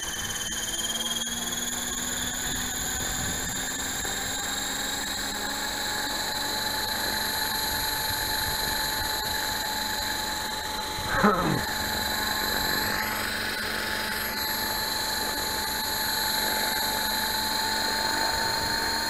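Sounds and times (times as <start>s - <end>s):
model helicopter motor whine: 0.0s - 19.0s.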